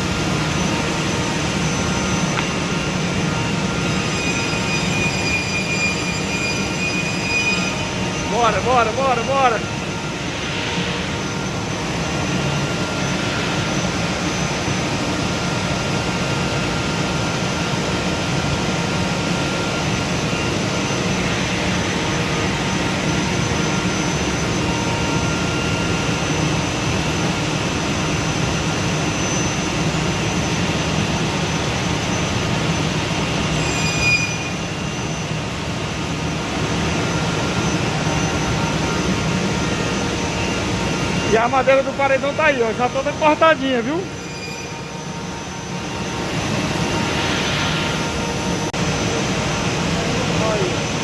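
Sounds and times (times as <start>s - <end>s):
wood-cutting machine running: 0.0s - 51.0s.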